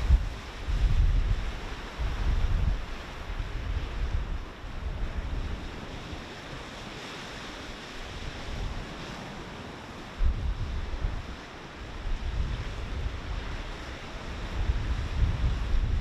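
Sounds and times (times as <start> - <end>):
wind buffeting microphone: 0.0 - 6.8, 7.7 - 16.0
sea surf washing on beach: 0.0 - 16.0.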